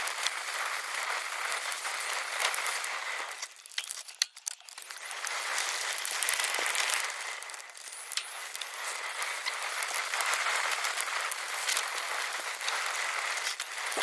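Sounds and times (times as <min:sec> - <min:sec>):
bike tyres rolling on trail: 0:00.0 - 0:14.0.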